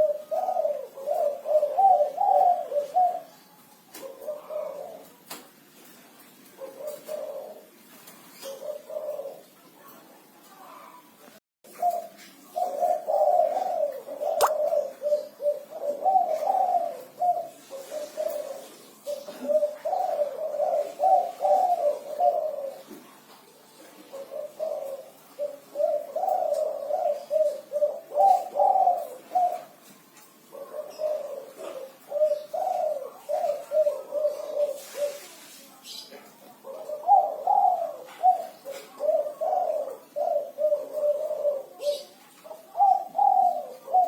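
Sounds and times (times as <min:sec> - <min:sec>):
dove cooing: 0:00.0 - 0:44.0.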